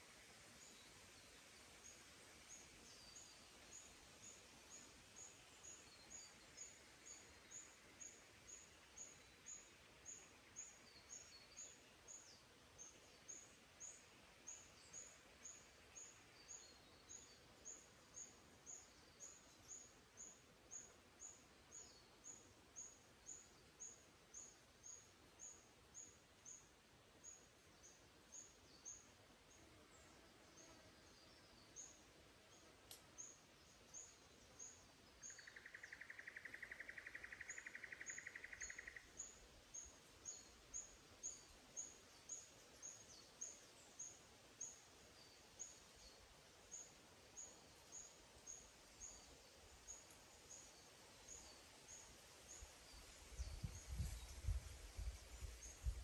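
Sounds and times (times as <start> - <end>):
faint chirps of other birds: 0.0 - 56.0
steady forest hiss: 0.0 - 56.0.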